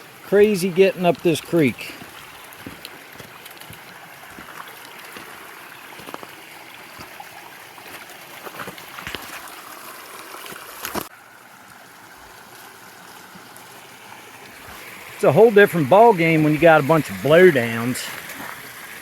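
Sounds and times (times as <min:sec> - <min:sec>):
creek water over rocks: 0:00.0 - 0:19.0.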